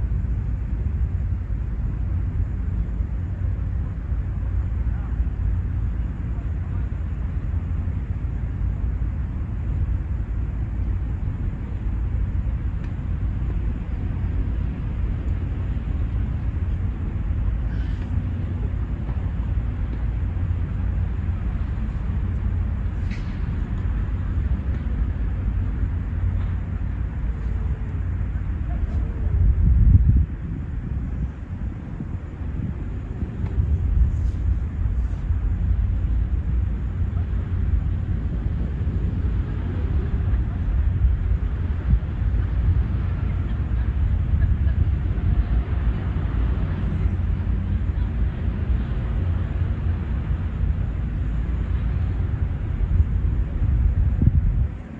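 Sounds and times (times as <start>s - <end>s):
low outdoor rumble: 0.0s - 54.9s
wind buffeting microphone: 0.0s - 54.9s.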